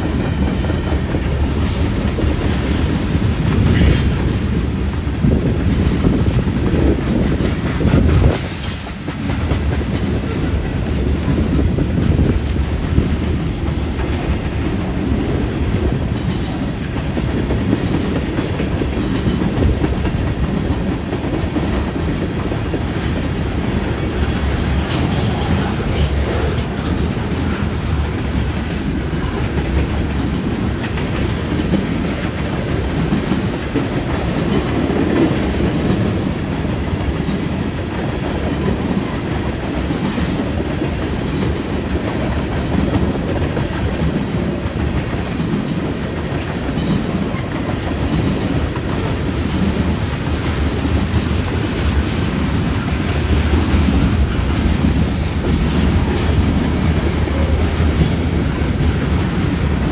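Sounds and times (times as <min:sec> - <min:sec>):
freight train rumbling past: 0:00.0 - 0:59.9
wheels clacking over rails: 0:00.0 - 0:59.9.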